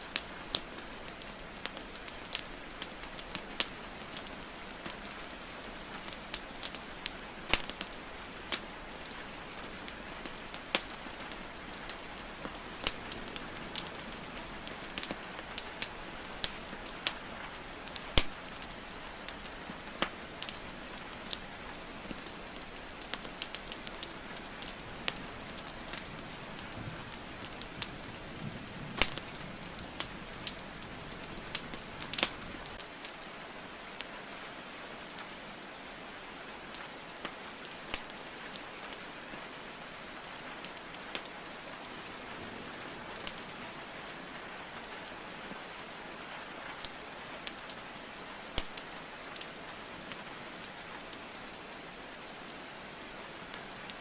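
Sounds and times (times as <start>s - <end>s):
wood fire crackling and popping: 0.0s - 34.2s, 35.0s - 36.0s, 36.6s - 39.2s, 39.8s - 42.2s, 42.8s - 43.6s, 46.7s - 51.6s, 53.4s - 54.0s
rain falling: 0.0s - 54.0s.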